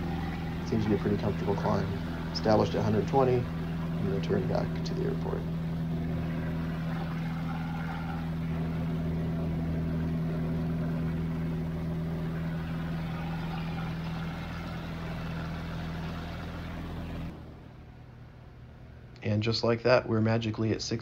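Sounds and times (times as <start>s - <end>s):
propeller engine droning: 0.0s - 19.0s.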